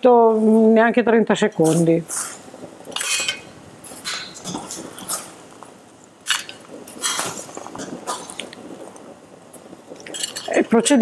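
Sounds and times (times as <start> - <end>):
water boiling hard: 0.0 - 11.0.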